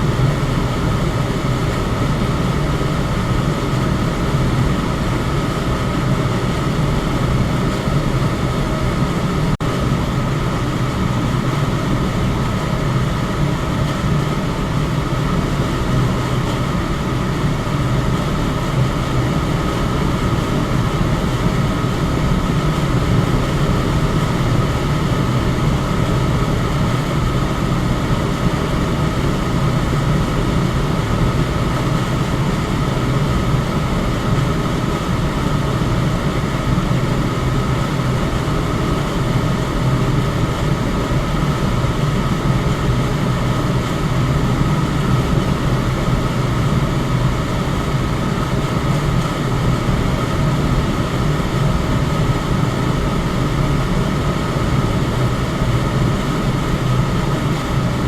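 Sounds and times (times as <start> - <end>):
electric fan running: 0.0 - 58.0
faint steady whine: 0.0 - 58.0.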